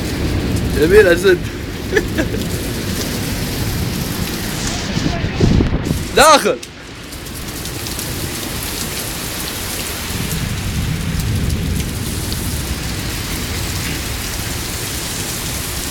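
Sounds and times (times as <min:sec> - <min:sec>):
heavy rain pouring: 0:00.0 - 0:15.9.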